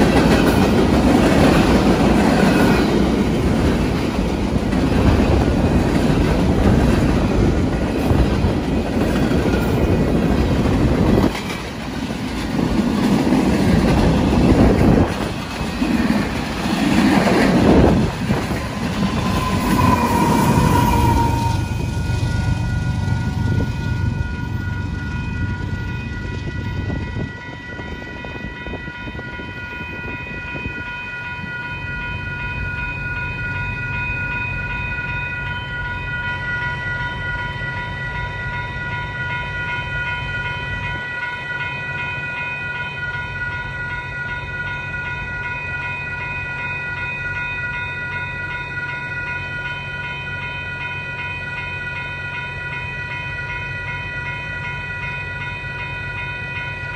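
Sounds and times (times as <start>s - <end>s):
freight train rumbling over rails: 0.0s - 56.9s
railroad crossing bells ringing: 0.0s - 56.9s.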